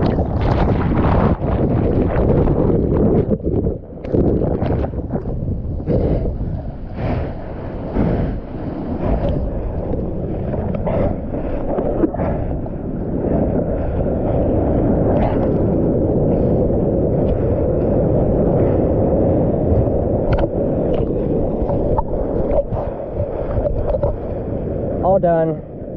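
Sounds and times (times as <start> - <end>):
ocean water splashing and rushing: 0.0 - 25.9
wind buffeting microphone: 0.0 - 25.9.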